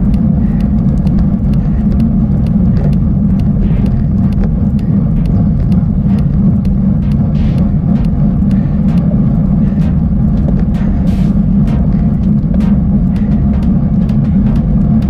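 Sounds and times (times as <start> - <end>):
bicycle rumbling over rough track: 0.0 - 15.0
bike rattles and clicks: 0.0 - 15.0.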